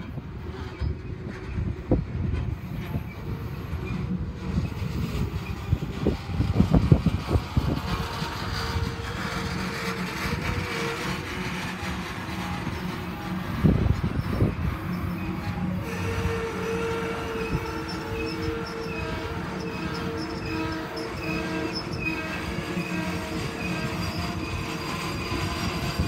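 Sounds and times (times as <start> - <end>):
train cars clunking: 0.0 - 26.0
train wheels rumbling on track: 0.0 - 26.0.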